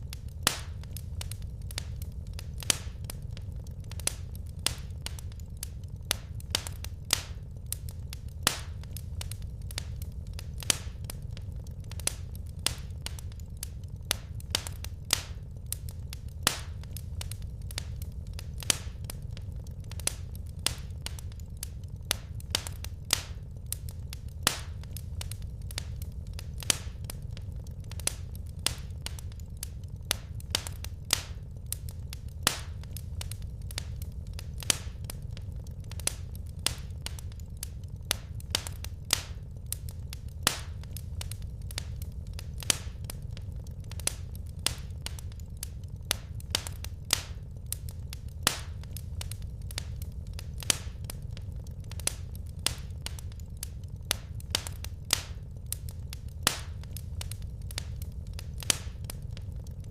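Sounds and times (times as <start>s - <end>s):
low rumble of flame: 0.0s - 59.9s
wood fire crackling: 0.0s - 59.9s.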